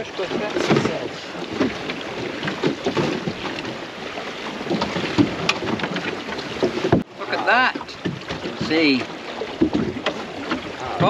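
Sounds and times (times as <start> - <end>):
water splashing along a hull: 0.0 - 11.0
small knocks and rattles: 0.5 - 3.8, 4.6 - 7.1, 7.7 - 11.0.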